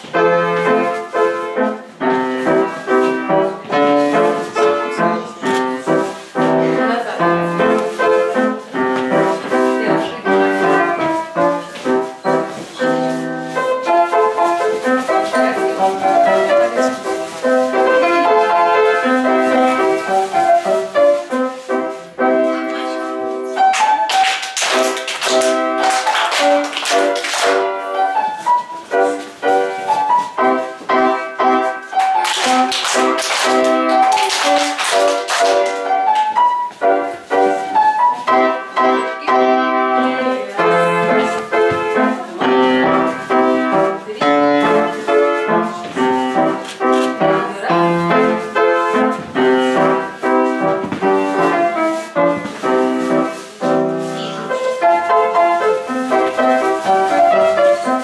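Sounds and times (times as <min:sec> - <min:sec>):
upright piano dance tune: 0:00.0 - 0:58.0.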